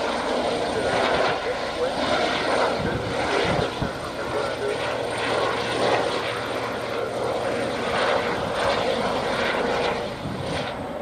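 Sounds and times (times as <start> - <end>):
helicopter flying past: 0.0 - 11.0.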